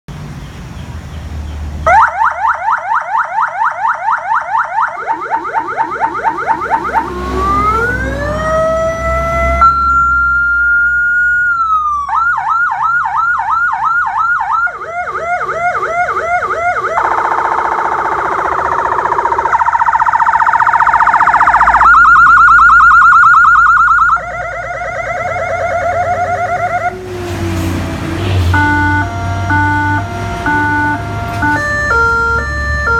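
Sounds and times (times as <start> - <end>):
electronic emergency siren: 1.9 - 32.9.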